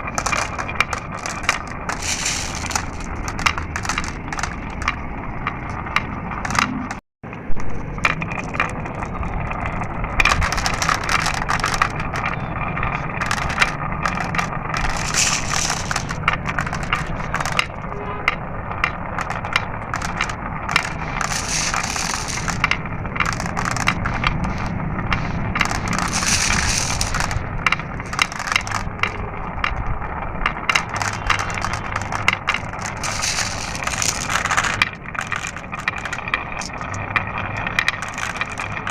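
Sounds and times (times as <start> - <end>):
marbles clicking and clacking: 0.0 - 38.9
marbles rolling down a track: 0.0 - 38.9.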